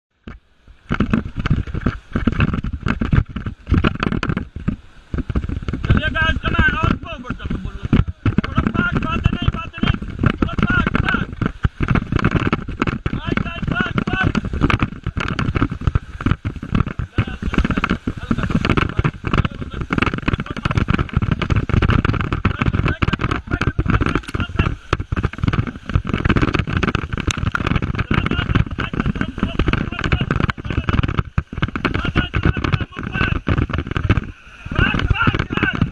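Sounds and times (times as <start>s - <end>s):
wind gusts on microphone: 0.2s - 35.9s
river rapids rushing: 5.2s - 35.9s.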